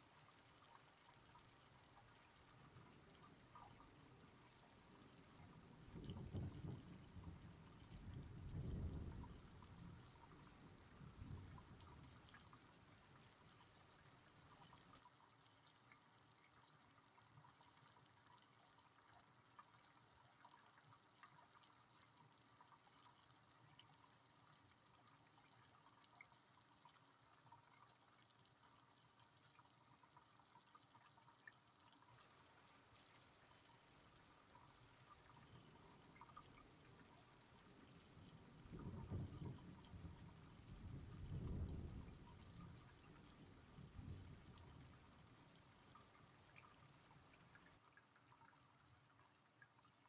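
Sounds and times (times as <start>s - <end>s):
drips ticking: 0.0s - 50.0s
faint rain: 0.0s - 50.0s
soft even hiss: 0.0s - 50.0s.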